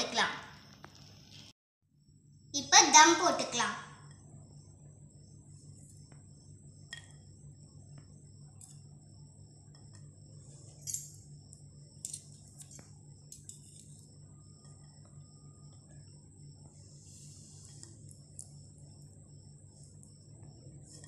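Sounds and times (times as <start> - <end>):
faint high whine: 0.0 - 21.0
steady low hum: 0.0 - 21.0.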